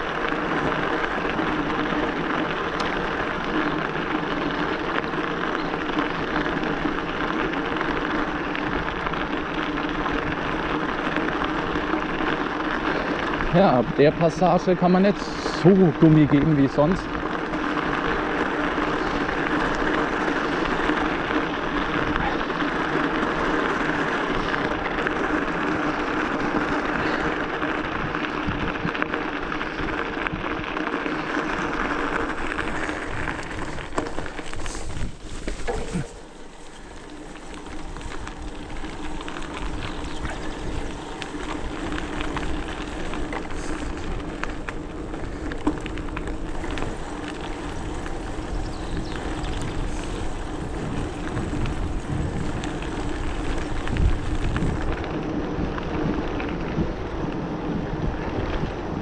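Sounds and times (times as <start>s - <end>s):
wind and tyre noise: 0.0s - 59.0s.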